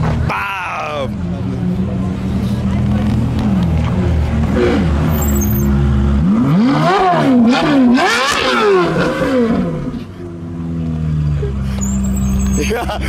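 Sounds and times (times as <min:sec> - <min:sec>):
sports car engine revving: 0:01.2 - 0:12.6.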